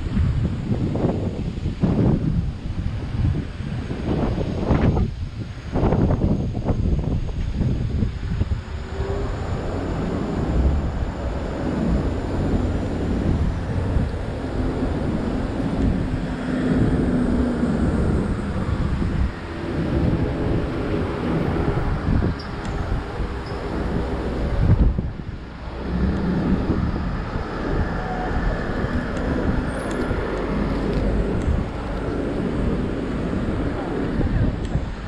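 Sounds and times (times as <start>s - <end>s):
road traffic rumble: 0.0s - 35.0s
wind buffeting microphone: 0.0s - 35.0s.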